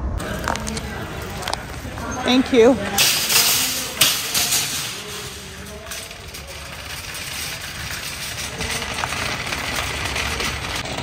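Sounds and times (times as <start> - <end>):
faint indistinct voices: 0.2 - 11.0.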